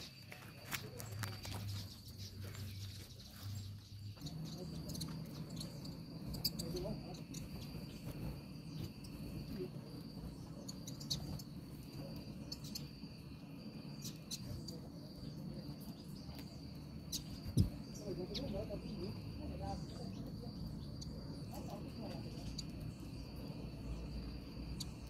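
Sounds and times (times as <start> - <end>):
high insect trill: 0.0 - 25.0
small birds chirping: 0.0 - 25.0.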